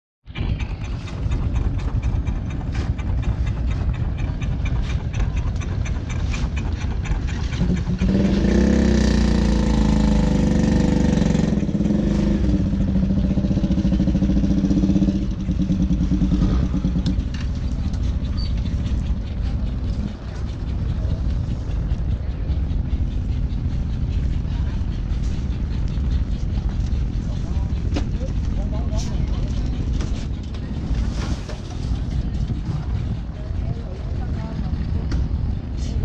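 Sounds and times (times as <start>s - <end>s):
motor engine humming: 0.3s - 36.0s.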